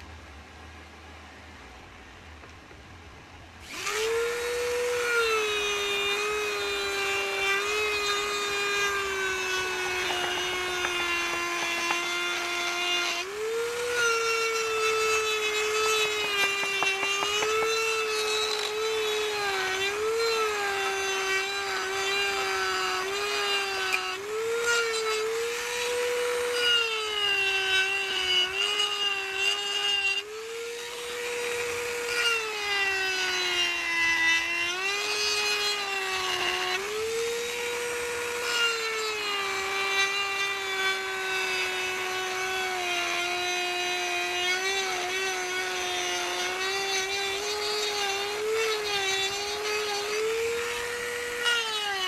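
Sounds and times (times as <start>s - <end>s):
rotary tool whining carving wood: 3.5s - 52.0s.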